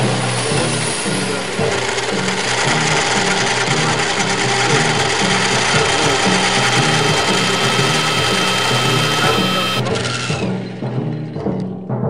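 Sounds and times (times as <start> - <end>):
industrial noise music: 0.0 - 12.0.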